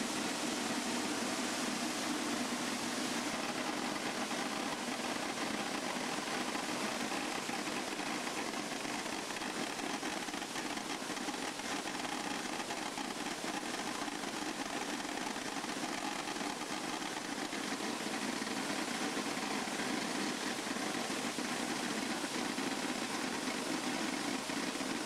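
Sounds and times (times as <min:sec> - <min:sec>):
sorting machine running beans: 0:00.0 - 0:25.0.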